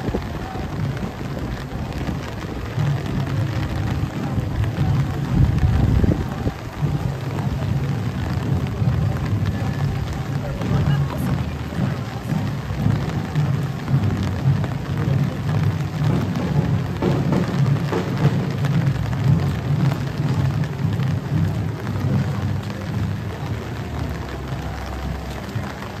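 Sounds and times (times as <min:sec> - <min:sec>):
low uneven rumble: 0:00.0 - 0:26.0
rain falling on a wet road: 0:00.0 - 0:26.0.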